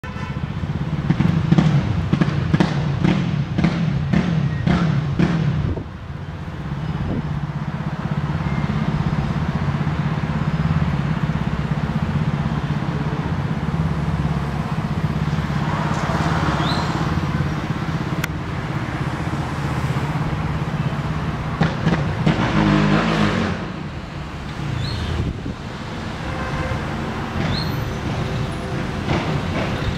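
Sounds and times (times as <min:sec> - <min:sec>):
traffic noise: 0:00.0 - 0:29.9.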